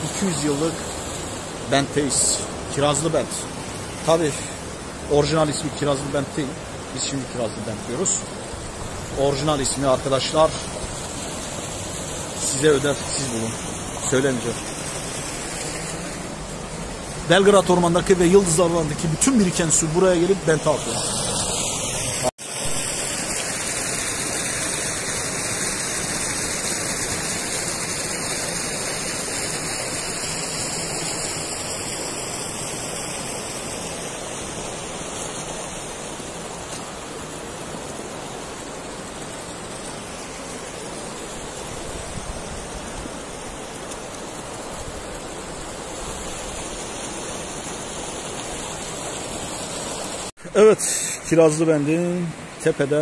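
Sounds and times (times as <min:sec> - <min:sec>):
water rushing into stone basin: 0:00.0 - 0:52.6.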